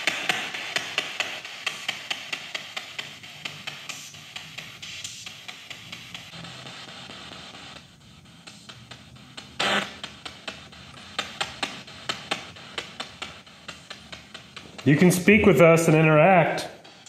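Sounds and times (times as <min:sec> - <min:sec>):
rapid clicks: 0:00.0 - 0:17.0
radio static hissing: 0:03.0 - 0:17.0.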